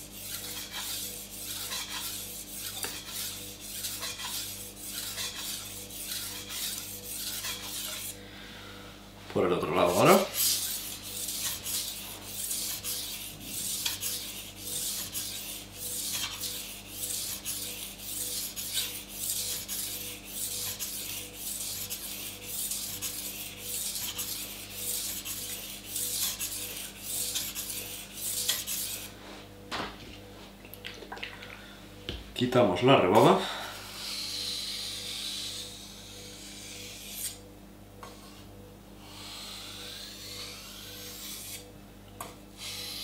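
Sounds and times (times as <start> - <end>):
knife scraping on a whetstone: 0.0 - 8.2, 9.8 - 29.2, 33.7 - 41.7, 42.6 - 43.0.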